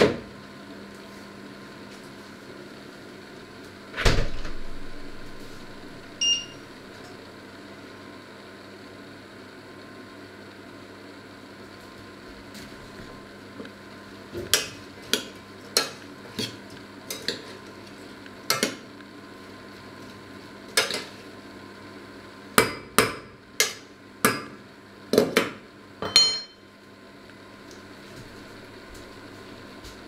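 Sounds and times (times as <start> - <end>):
steady low hum: 0.2 - 30.0.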